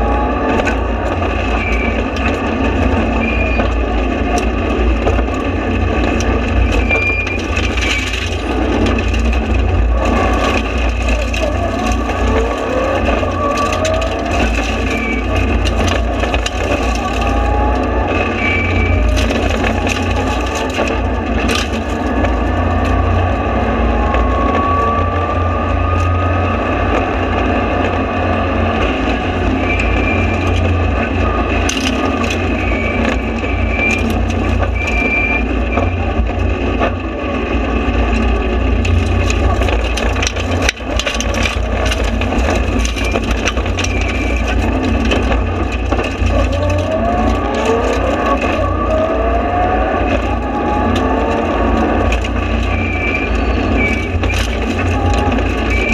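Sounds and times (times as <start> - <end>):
rally car engine at full throttle: 0.0 - 55.9.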